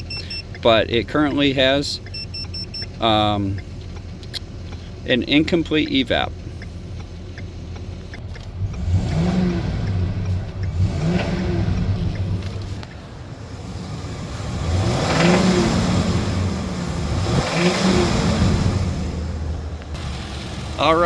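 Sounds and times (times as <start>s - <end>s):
van engine revving: 0.0s - 21.0s.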